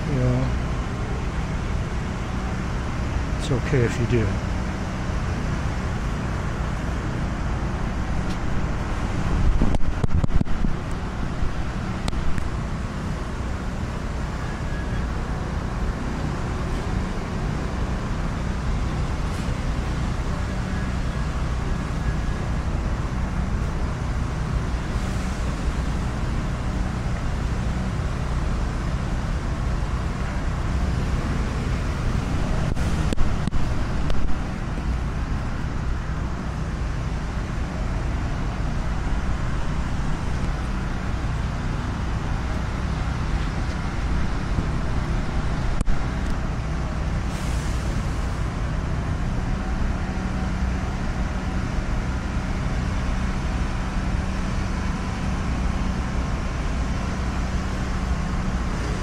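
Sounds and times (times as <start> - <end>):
vehicle engine rumble: 0.0 - 59.0.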